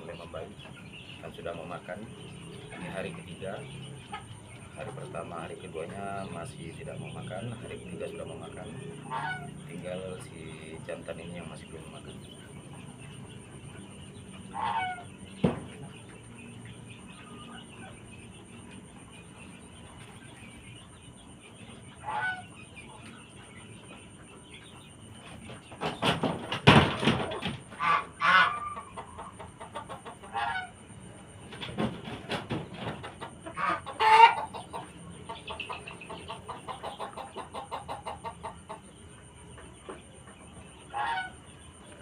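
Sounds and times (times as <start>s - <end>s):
chickens calling: 0.0s - 42.0s
chickens squawking and scuffling: 0.0s - 42.0s.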